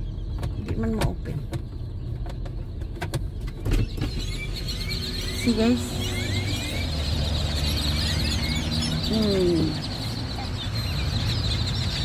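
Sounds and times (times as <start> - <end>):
flock of birds chattering: 0.0 - 12.0
low traffic rumble: 0.0 - 12.0.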